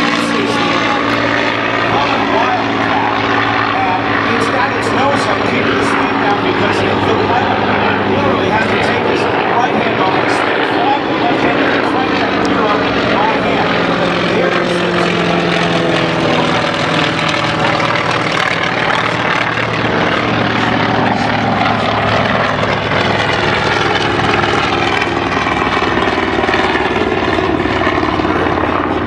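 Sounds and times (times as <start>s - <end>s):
propeller plane engine flyby: 0.0s - 29.0s.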